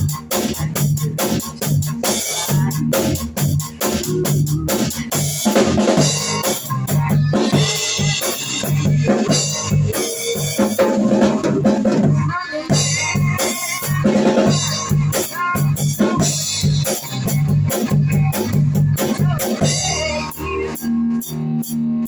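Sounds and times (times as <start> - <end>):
bass line: 0.0 - 22.0
drum kit: 0.0 - 22.0
rock guitar: 0.0 - 22.0.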